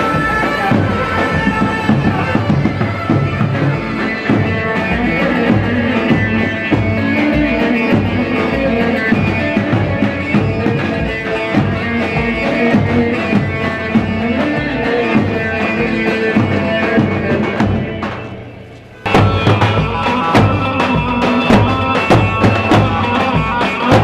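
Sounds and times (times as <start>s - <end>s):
lute melody: 0.0s - 24.0s
steady drum beat: 0.0s - 24.0s.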